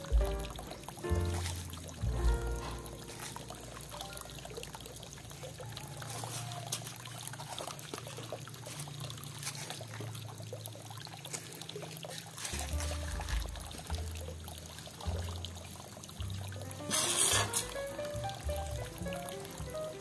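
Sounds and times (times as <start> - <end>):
granules trickling onto soil: 0.0 - 4.9, 5.6 - 10.4, 11.2 - 20.0.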